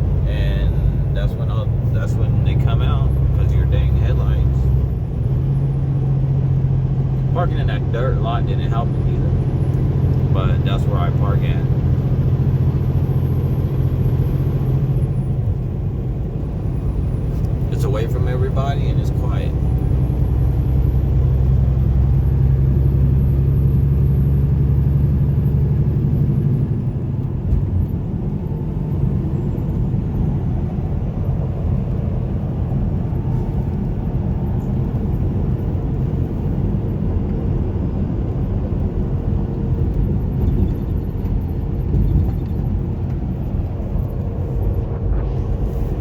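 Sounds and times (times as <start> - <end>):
road rumble: 0.0 - 46.0
truck engine drone: 0.0 - 46.0.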